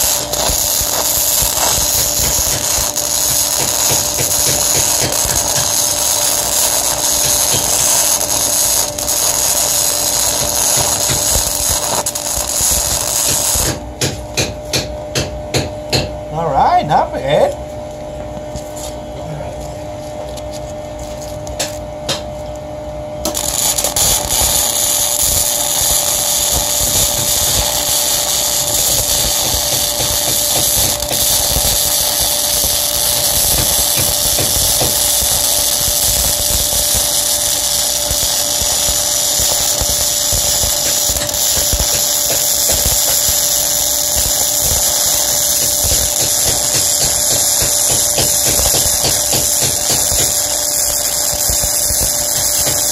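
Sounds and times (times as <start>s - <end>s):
arc welding crackle: 0.0s - 15.6s, 20.2s - 52.9s
electrical hum: 0.0s - 52.9s.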